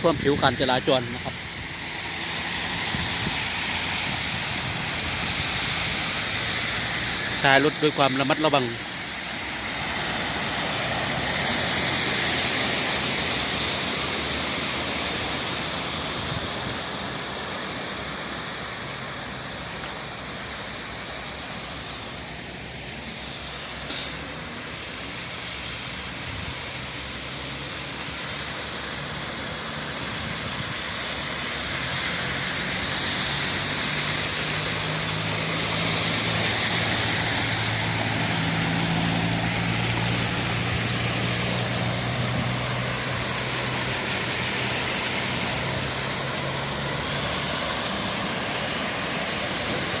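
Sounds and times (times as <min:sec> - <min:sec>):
low engine hum: 0:00.0 - 0:50.0
tyres hissing through water: 0:00.0 - 0:50.0.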